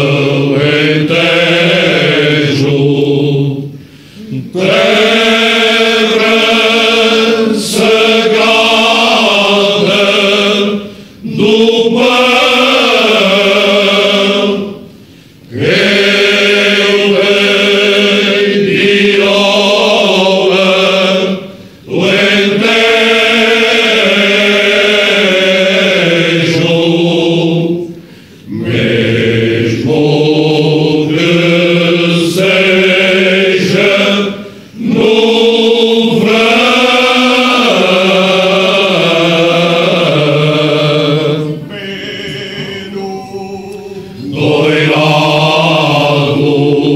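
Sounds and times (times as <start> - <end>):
men's choir singing unaccompanied: 0.0 - 46.9.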